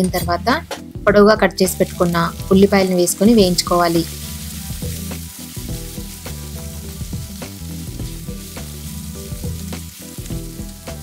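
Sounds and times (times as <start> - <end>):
onions sizzling in hot oil: 0.4 - 11.0.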